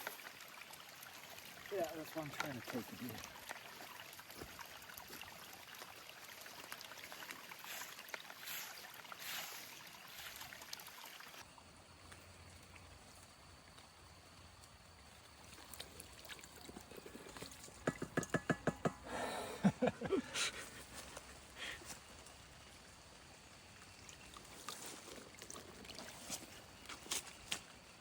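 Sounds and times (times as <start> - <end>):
water trickling and splashing: 0.0 - 18.8, 19.6 - 28.0.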